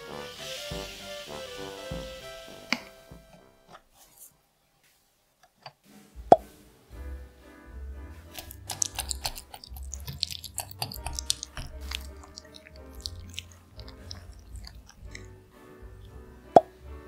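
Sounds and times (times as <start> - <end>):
quiet background music: 0.0 - 5.0, 5.8 - 17.0.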